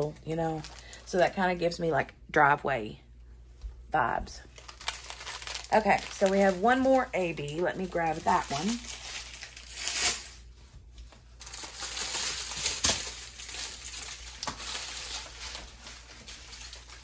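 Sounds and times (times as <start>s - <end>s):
plastic packaging crinkling: 0.0s - 1.4s, 4.4s - 17.0s.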